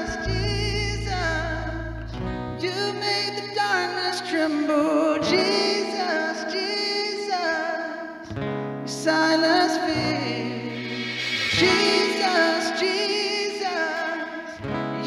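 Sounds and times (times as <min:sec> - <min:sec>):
guitar-led accompaniment: 0:00.0 - 0:15.0.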